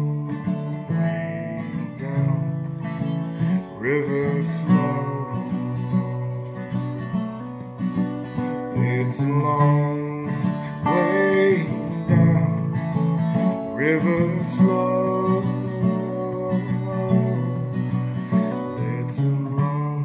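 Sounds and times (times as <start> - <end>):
man singing wordless notes: 0.0 - 2.6, 3.7 - 6.6, 8.7 - 20.0
acoustic guitar strumming: 0.0 - 20.0.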